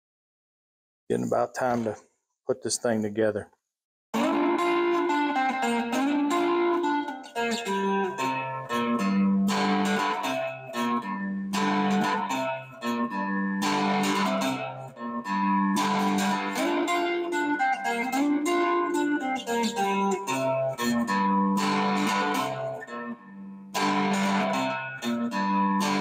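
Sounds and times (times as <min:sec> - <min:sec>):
three-string guitar picked: 0:04.2 - 0:26.0.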